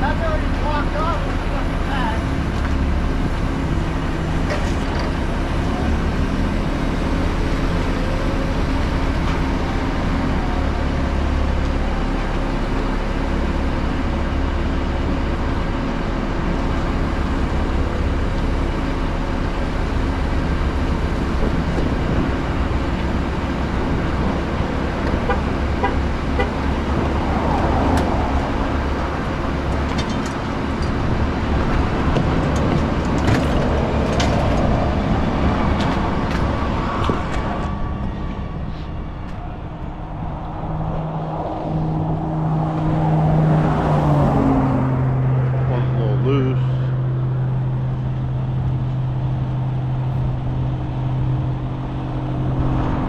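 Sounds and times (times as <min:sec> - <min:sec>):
truck engine idling: 0:00.0 - 0:53.0.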